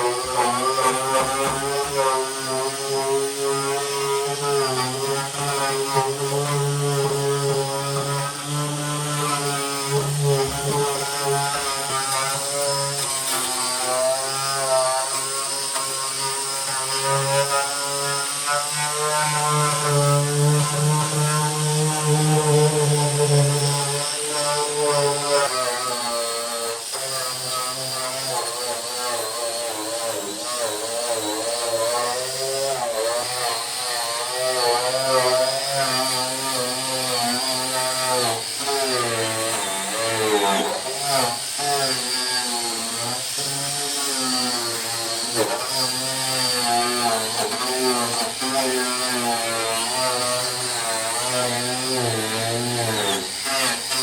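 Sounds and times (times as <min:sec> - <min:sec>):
power tool motor running: 0:00.0 - 0:54.0.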